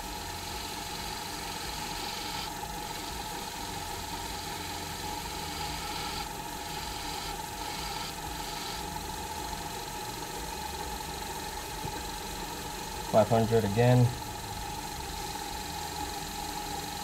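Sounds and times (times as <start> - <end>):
lathe whining: 0.0 - 17.0.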